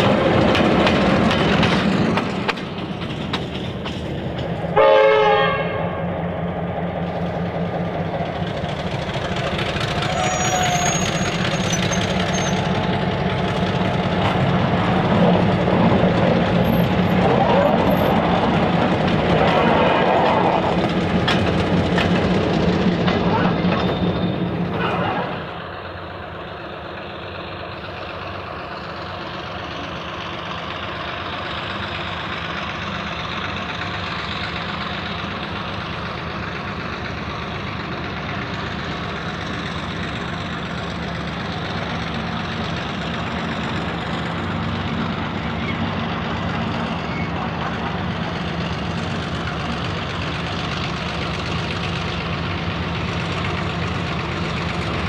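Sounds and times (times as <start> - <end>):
locomotive diesel engine running: 0.0 - 55.0.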